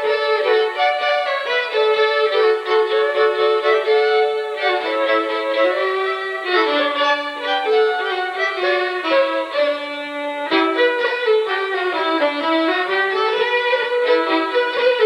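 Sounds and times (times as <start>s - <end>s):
fiddles playing a tune: 0.0s - 15.0s.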